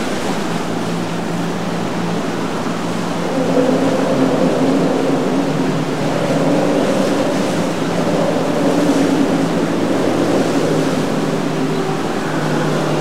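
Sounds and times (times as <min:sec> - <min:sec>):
motorboat engines droning: 0:00.0 - 0:13.0
waves and water rushing: 0:00.0 - 0:13.0.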